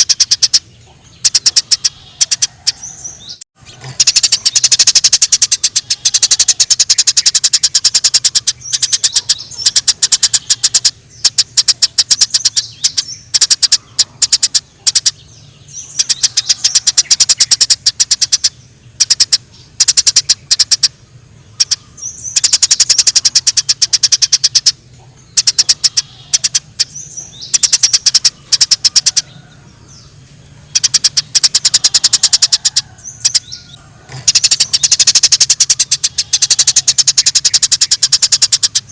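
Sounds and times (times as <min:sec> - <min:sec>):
faint low hum: 0:00.0 - 0:38.9
sparrows chirping: 0:00.0 - 0:38.9.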